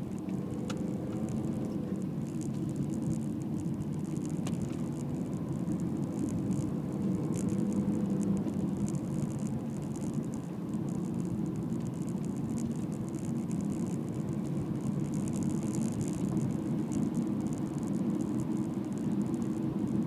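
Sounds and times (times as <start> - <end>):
car engine drone: 0.0 - 20.0.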